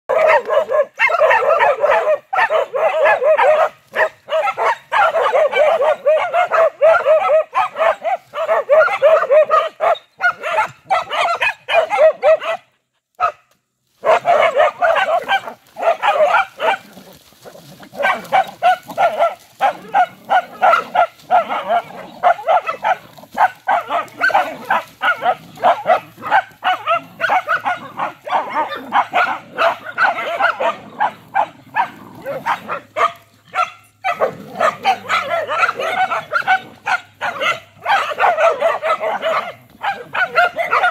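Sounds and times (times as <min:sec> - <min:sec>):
small dogs barking: 0:00.1 - 0:40.9.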